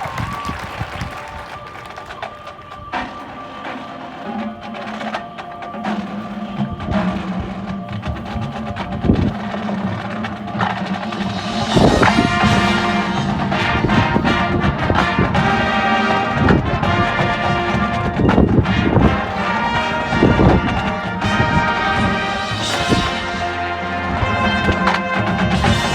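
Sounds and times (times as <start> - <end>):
marching band percussion: 0.0 - 25.9
marching band chords: 1.2 - 25.9.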